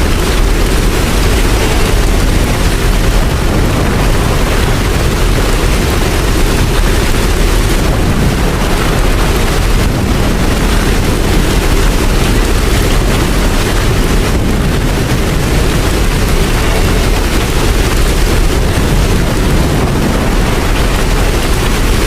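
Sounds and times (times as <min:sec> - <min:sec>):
deep rumble: 0:00.0 - 0:22.0
steady rain: 0:00.0 - 0:22.0.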